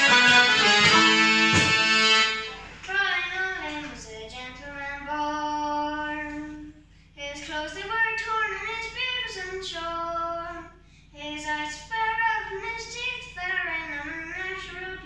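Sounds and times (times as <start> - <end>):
girl singing unaccompanied: 2.8 - 15.0.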